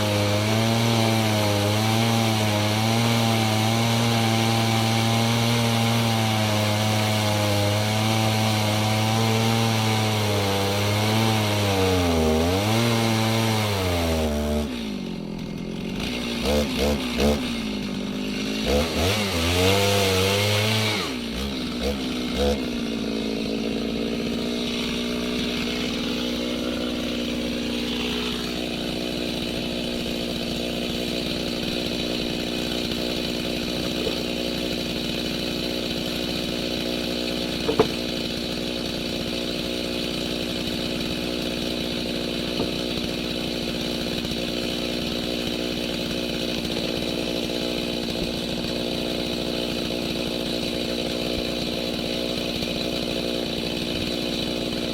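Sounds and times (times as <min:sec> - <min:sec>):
chainsaw cutting log: 0:00.0 - 0:54.9.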